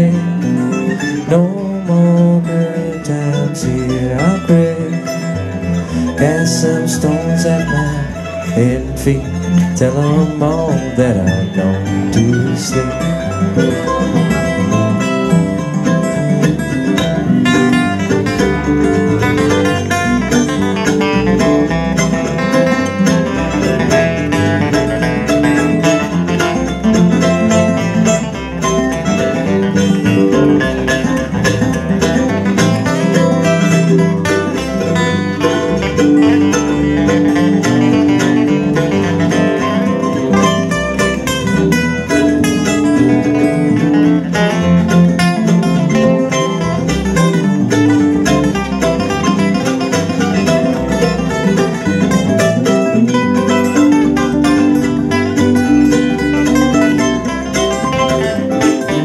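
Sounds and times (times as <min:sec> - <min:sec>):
acoustic guitars picking melody: 0:00.0 - 0:59.0
plucked upright bass: 0:00.0 - 0:59.0.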